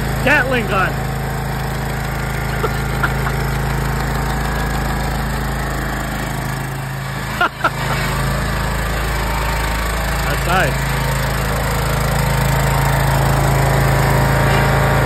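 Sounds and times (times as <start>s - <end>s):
garden tractor engine idling: 0.0s - 15.0s.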